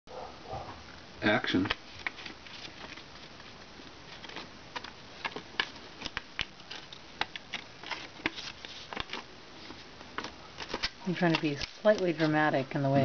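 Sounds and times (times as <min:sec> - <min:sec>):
paper rustling and crinkling: 0:01.6 - 0:12.6.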